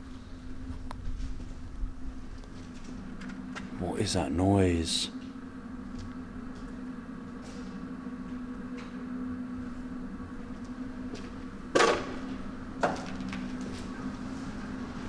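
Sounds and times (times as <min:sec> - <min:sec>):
overhead fan humming: 0:00.0 - 0:15.0.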